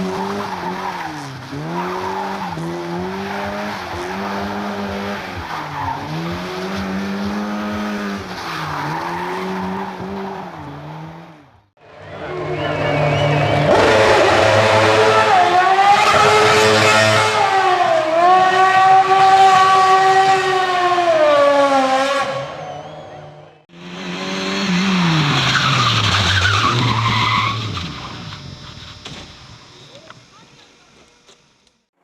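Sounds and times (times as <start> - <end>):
race car engine revving: 0.0 - 29.7
tyres skidding: 0.0 - 29.7.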